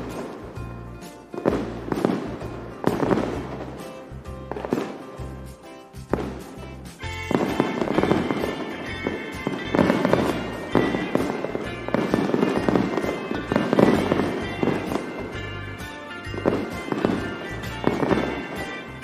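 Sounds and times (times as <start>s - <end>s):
background music: 0.0s - 19.0s
fireworks bursting and crackling: 0.0s - 19.0s.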